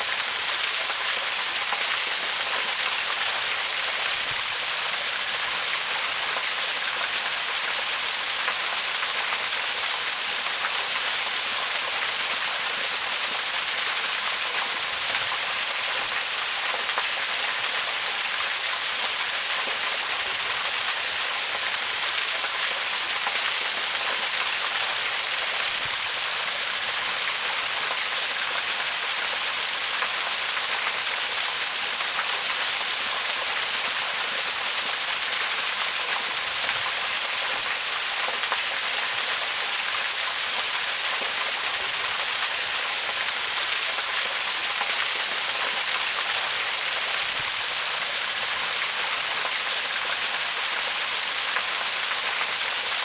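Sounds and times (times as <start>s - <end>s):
waterfall hiss: 0.0s - 53.0s.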